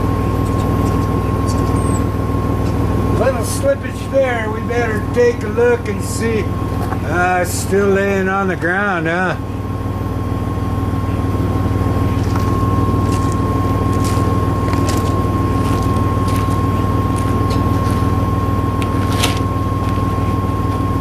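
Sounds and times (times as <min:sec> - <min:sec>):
high-pitched whine: 0:00.0 - 0:21.0
vehicle engine running: 0:00.0 - 0:21.0.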